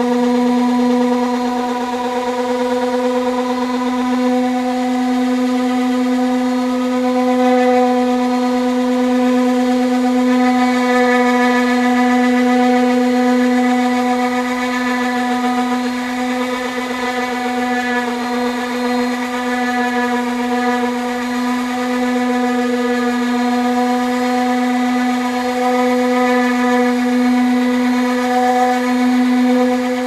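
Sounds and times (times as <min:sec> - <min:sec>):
power sander motor whine: 0:00.0 - 0:30.0.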